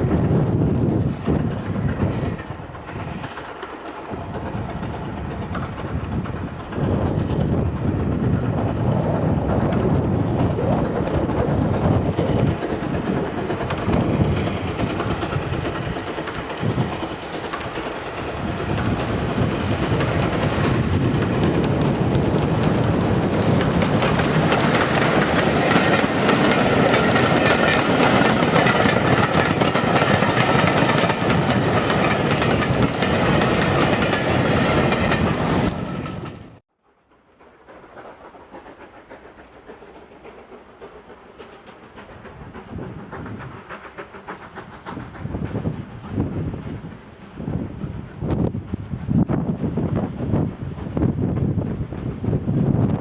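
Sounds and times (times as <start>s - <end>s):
carriages rolling on rails: 0.0s - 53.0s
steam locomotive passing at speed: 0.0s - 53.0s.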